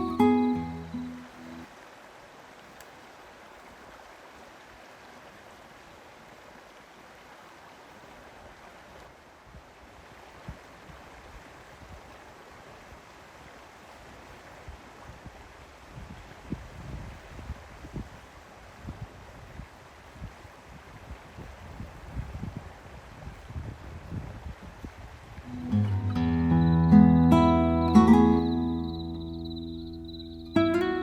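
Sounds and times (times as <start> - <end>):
stream water rushing: 0.0 - 22.2, 24.9 - 31.0.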